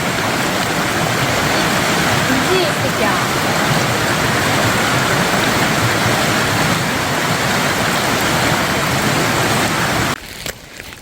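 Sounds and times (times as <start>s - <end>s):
stream water rushing: 0.0s - 10.9s.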